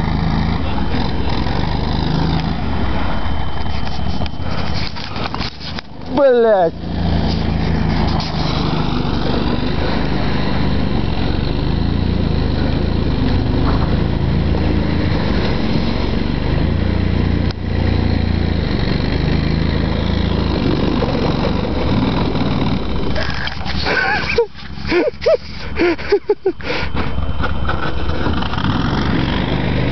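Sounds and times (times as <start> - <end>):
vehicle engine running: 0.0 - 29.9.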